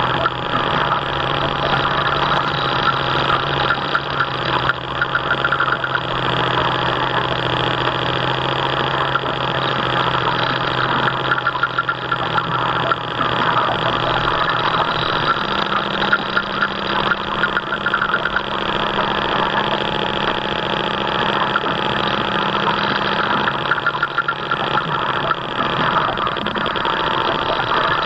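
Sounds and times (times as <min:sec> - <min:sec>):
model boat motor running: 0:00.0 - 0:28.0.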